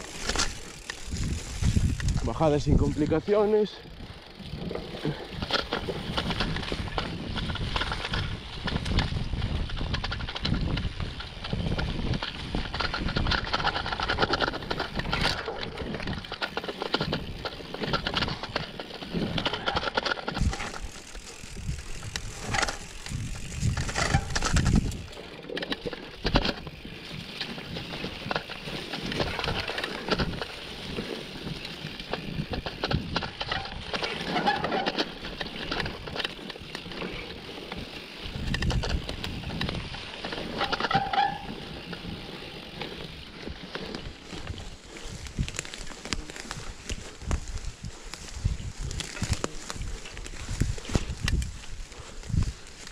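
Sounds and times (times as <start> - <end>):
bike clattering and rattling: 0.0 - 52.9
tyre and wind rush: 0.0 - 52.9.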